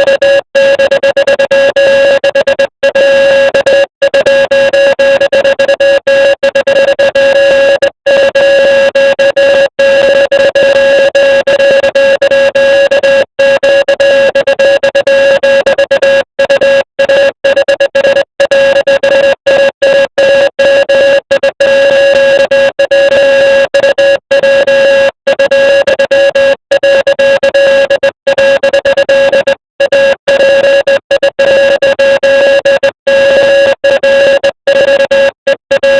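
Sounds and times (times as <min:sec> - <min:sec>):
electronic morse code tone: 0:00.0 - 0:35.9.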